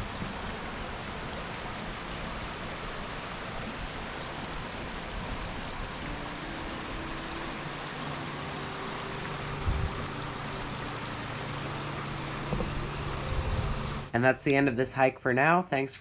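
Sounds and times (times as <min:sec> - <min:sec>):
creek water rushing: 0:00.0 - 0:14.1.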